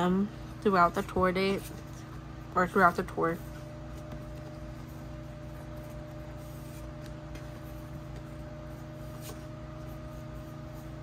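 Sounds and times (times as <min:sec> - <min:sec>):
low hum with faint tone: 0:00.0 - 0:11.0.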